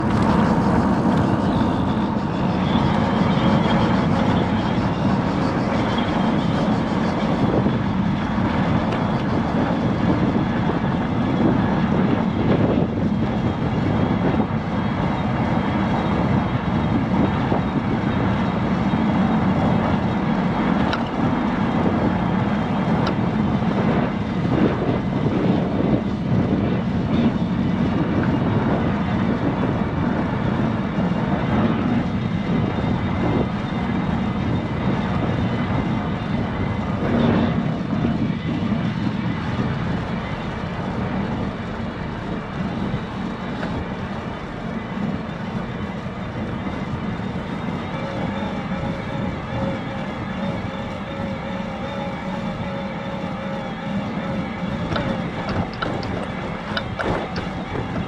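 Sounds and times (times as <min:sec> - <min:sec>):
bicycle tyres rolling on road: 0:00.0 - 0:58.0
wind on microphone: 0:00.0 - 0:58.0.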